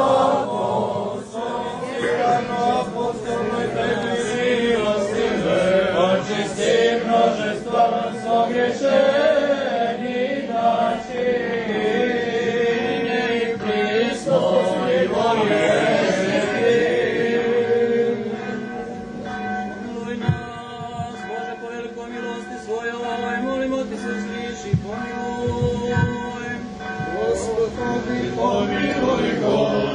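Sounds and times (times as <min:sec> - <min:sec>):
voices chanting liturgy: 0:00.0 - 0:29.9
church bell ringing: 0:01.4 - 0:29.9.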